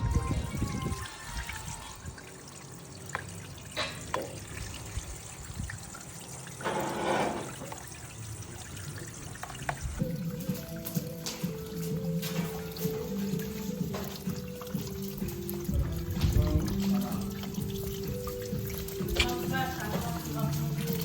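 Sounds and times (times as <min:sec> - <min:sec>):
water trickling and pouring: 0:00.0 - 0:21.0.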